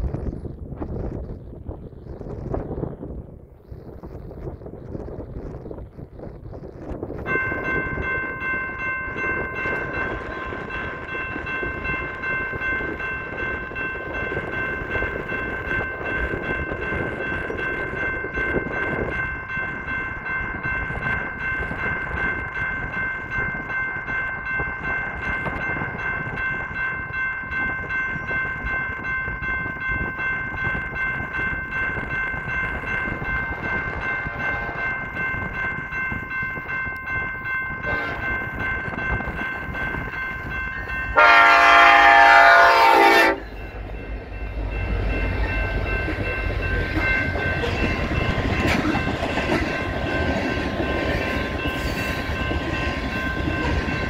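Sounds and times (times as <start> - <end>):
train rumbling: 0.0 - 54.0
crossing warning bell ringing: 6.8 - 54.0.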